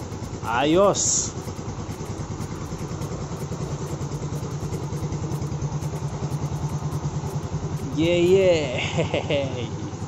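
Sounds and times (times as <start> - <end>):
scooter engine idling: 0.0 - 10.0.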